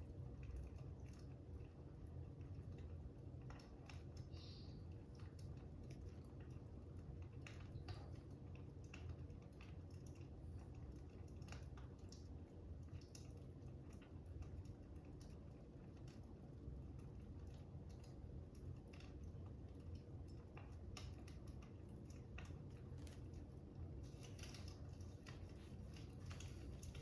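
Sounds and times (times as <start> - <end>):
faint fire crackling: 0.0 - 27.0.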